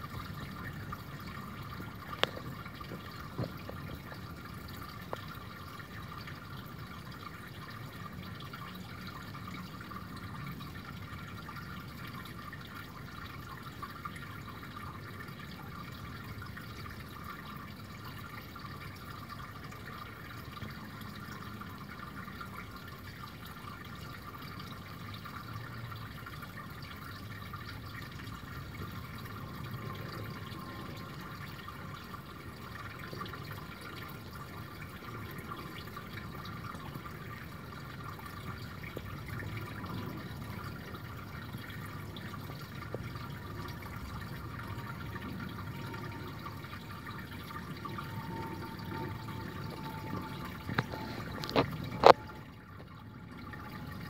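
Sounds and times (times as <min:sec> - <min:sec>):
brook babbling over pebbles: 0:00.0 - 0:54.0.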